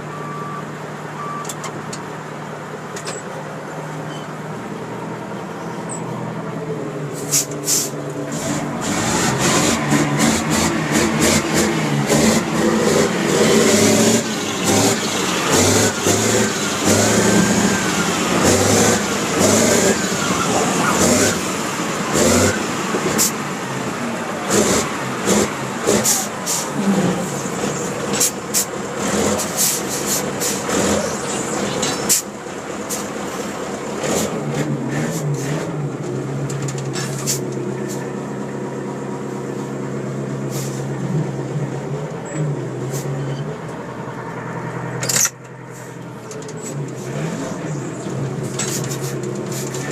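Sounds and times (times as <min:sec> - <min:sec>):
truck diesel engine running: 0:00.0 - 0:49.9.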